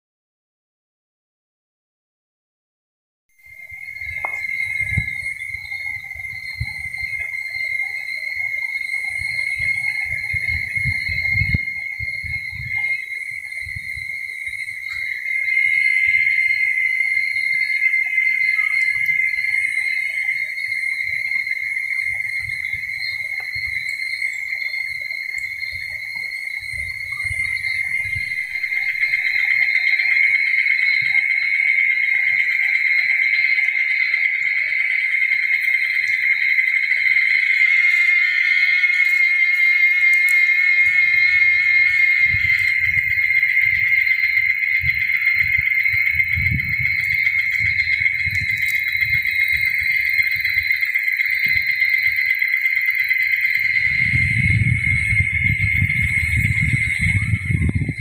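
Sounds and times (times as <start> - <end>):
high-pitched insect drone: 3.4 - 58.0.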